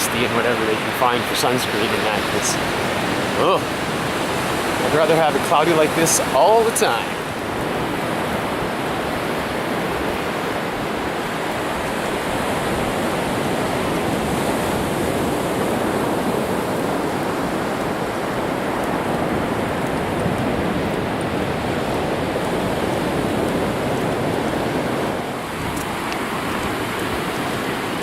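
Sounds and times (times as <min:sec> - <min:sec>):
ocean surf on sandy beach: 0:00.0 - 0:28.0.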